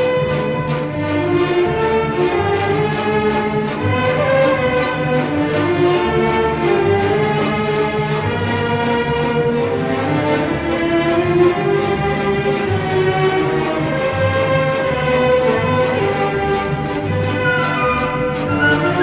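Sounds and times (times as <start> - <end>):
orchestral music: 0.0 - 19.0.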